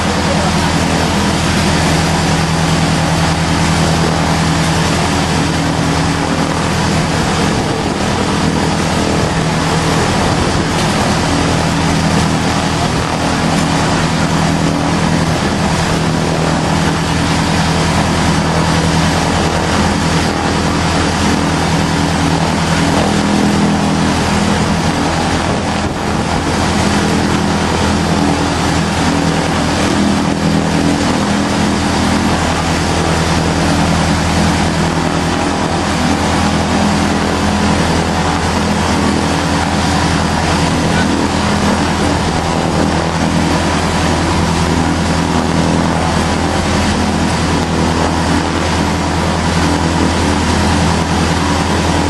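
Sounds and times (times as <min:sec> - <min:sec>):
light aircraft engine running: 0:00.0 - 0:52.0.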